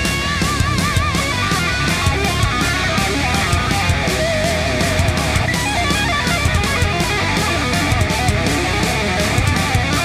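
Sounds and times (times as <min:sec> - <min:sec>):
rock music with drum beat: 0:00.0 - 0:10.0.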